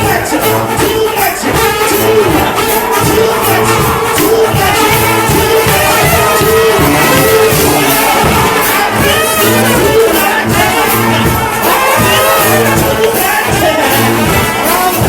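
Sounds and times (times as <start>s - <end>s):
crowd noise: 0.0s - 15.0s
live gospel band playing: 0.0s - 15.0s
people singing: 0.0s - 15.0s.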